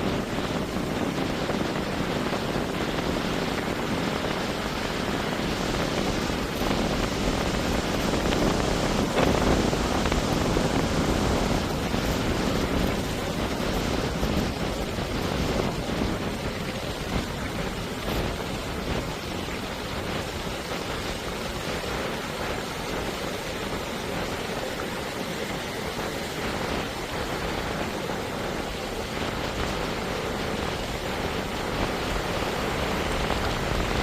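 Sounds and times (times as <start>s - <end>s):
ocean surf washing onto beach: 0.0s - 34.0s.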